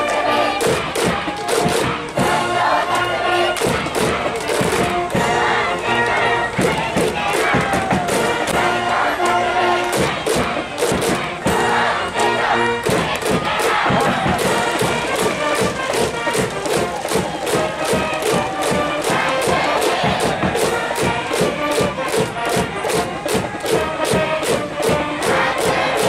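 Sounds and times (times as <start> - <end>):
brass band playing: 0.0 - 26.0
crowd chanting: 0.0 - 26.0
steady drumbeat: 0.0 - 26.0.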